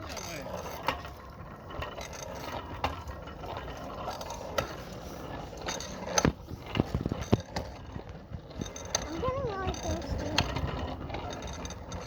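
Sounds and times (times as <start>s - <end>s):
bicycle rattling and clicking: 0.0s - 12.0s.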